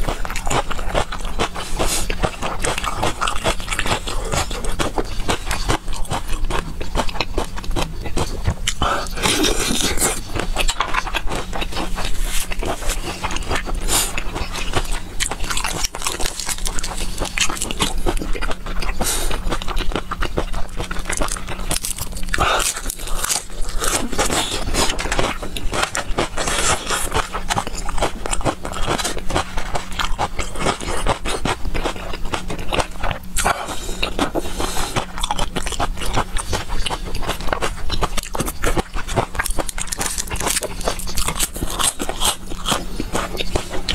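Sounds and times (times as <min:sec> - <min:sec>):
chewing and biting food: 0:00.0 - 0:43.9
steady low hum: 0:00.0 - 0:43.9.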